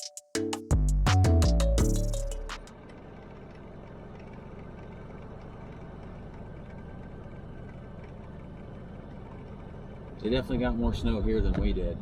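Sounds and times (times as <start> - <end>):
engine and road rumble in cab: 0.8 - 12.0.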